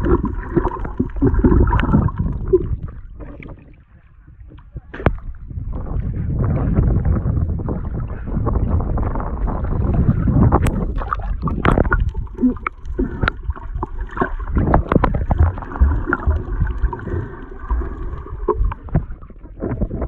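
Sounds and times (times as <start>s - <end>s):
underwater gurgling bubbles: 0.0s - 20.0s
water sloshing: 0.0s - 20.0s
waves: 0.0s - 20.0s.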